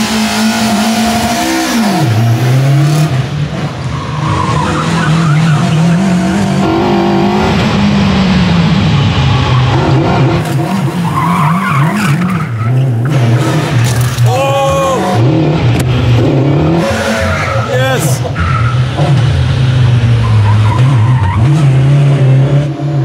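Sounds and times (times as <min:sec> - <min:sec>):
tires squealing: 0:00.0 - 0:07.7, 0:08.8 - 0:15.2, 0:16.2 - 0:19.4, 0:20.0 - 0:22.4
car engine revving: 0:00.0 - 0:23.0.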